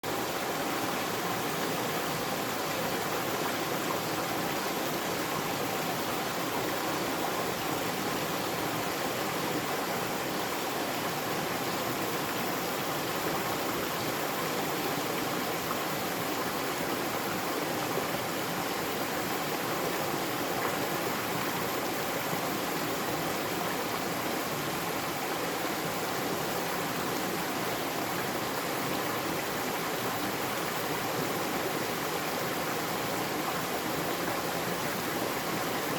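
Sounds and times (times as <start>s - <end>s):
stream flowing: 0.0s - 35.9s.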